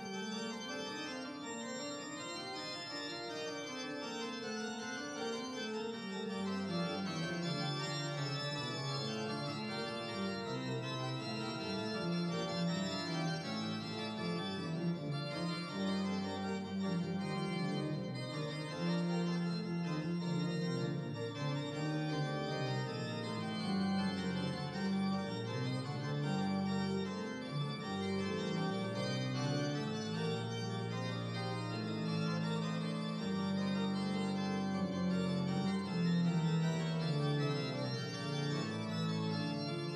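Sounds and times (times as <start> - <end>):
organ playing slow chords: 0.1 - 39.9.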